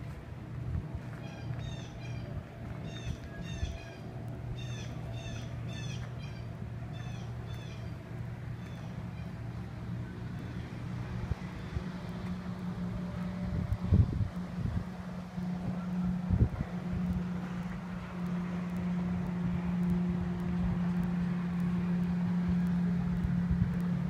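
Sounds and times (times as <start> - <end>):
steady low drone: 0.0 - 24.0.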